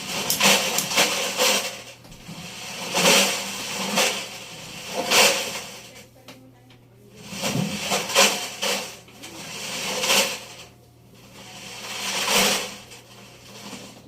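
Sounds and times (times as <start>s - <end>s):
metal objects clattering in drum: 0.0s - 6.0s, 7.2s - 14.0s
washing machine motor hum: 0.0s - 14.0s.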